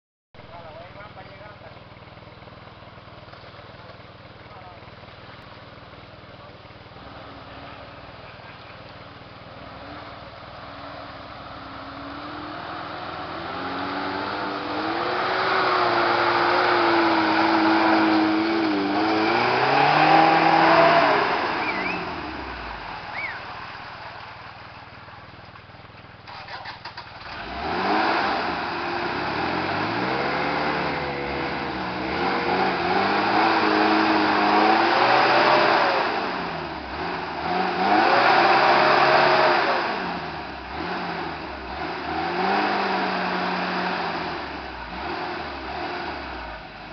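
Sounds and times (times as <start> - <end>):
engine crackle: 0.4 - 46.9
race vehicle engines revving: 0.5 - 46.9.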